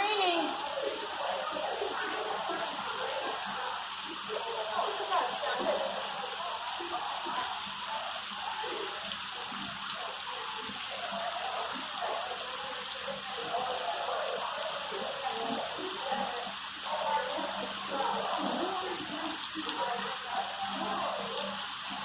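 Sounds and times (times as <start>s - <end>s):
falling rain hissing: 0.0s - 22.0s.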